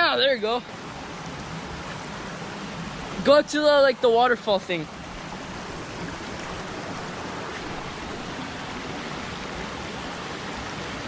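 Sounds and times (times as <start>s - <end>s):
creek and waterfall rushing: 0.0s - 11.0s.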